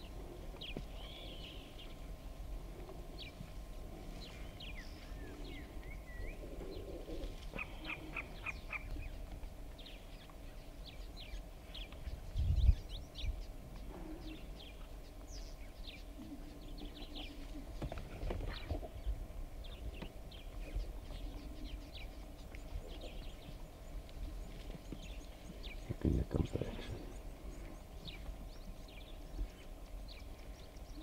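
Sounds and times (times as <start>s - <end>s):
birds chirping: 0.0s - 31.0s
low outdoor rumble: 0.0s - 31.0s.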